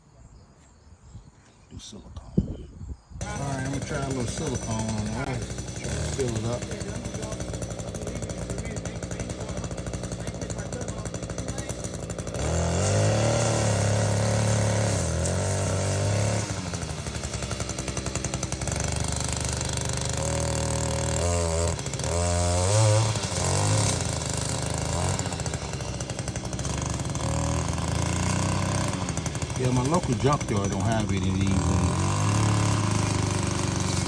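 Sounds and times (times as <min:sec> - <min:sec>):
vehicle engine running: 0:03.2 - 0:34.0.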